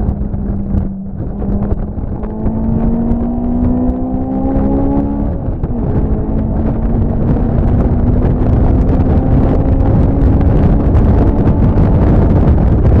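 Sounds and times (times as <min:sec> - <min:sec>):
engine hum: 0:00.0 - 0:13.0
wind buffeting microphone: 0:00.0 - 0:13.0.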